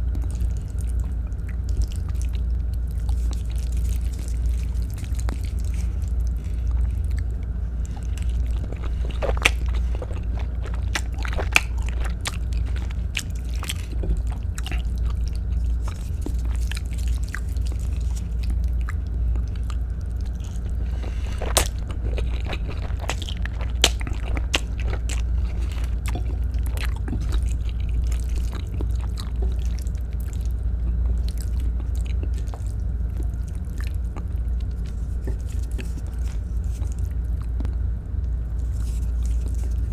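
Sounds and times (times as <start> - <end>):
person chewing food: 0.0 - 39.9
steady low hum: 0.0 - 39.9.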